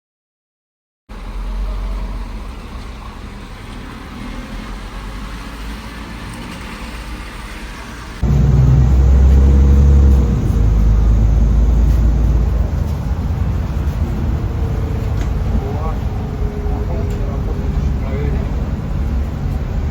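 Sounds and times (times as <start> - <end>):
bus engine rumbling: 1.1 - 19.9
road noise: 1.1 - 19.9.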